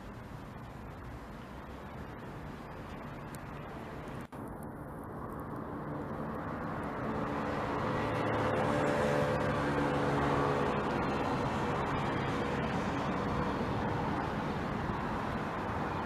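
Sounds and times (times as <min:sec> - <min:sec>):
road traffic noise: 0:00.0 - 0:16.0
steady engine hum: 0:00.0 - 0:16.0.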